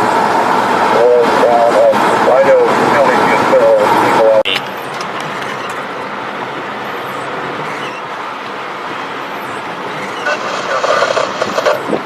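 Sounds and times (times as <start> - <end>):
road and wind noise in vehicle: 0.0 - 12.0.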